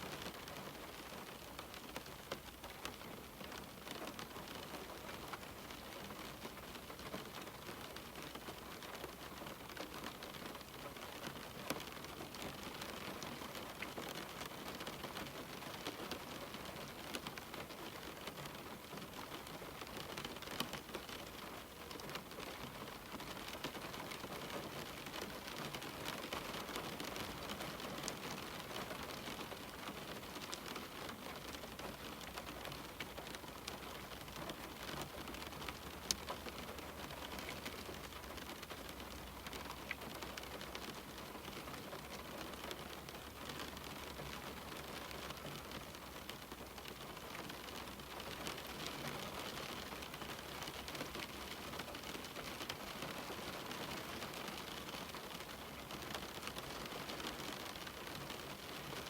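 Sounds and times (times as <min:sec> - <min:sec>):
rain on a window: 0:00.0 - 0:59.0.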